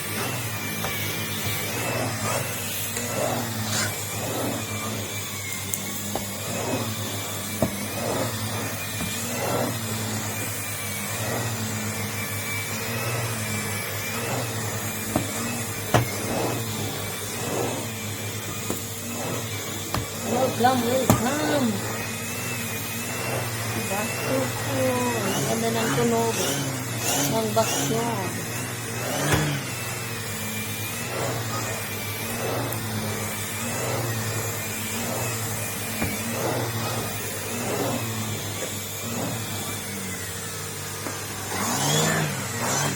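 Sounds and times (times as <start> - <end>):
vacuum cleaner whine: 0.0 - 42.9.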